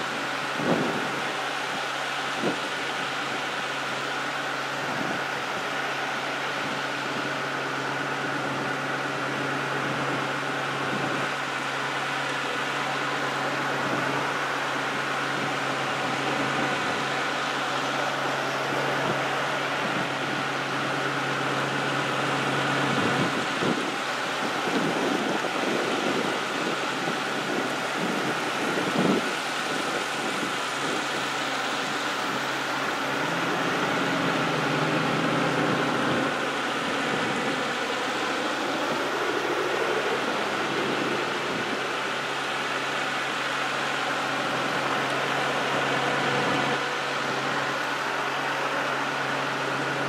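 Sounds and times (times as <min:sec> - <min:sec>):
cars and trucks passing: 0:00.0 - 0:50.0
tyres hissing on road: 0:00.0 - 0:50.0.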